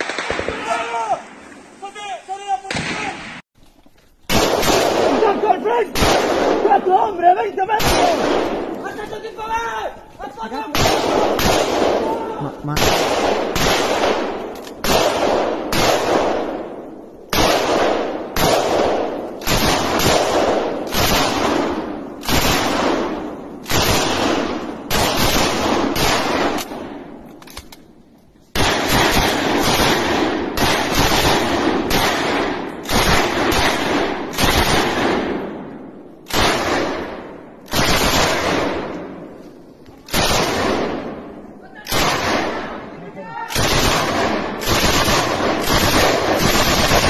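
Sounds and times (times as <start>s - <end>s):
rifle shots echoing: 0.0s - 1.8s, 2.7s - 3.4s, 4.3s - 9.8s, 10.5s - 47.0s.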